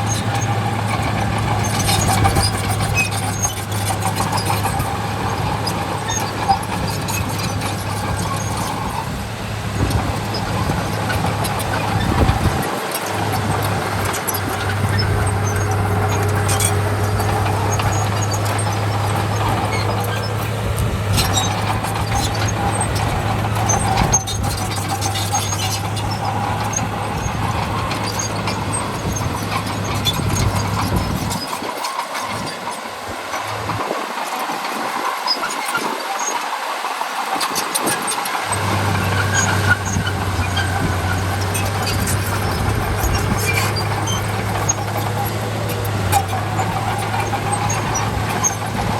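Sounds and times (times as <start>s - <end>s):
bulldozer engine running: 0.0s - 48.9s
metallic squealing: 0.0s - 48.9s.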